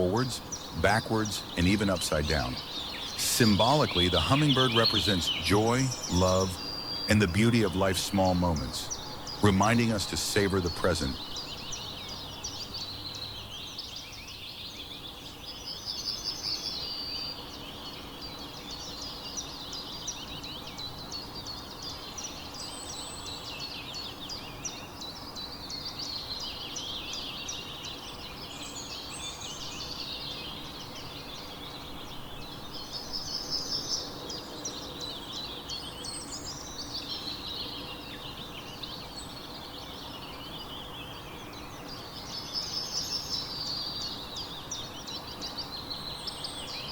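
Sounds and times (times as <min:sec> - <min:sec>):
small birds chirping and singing: 0:00.0 - 0:46.9.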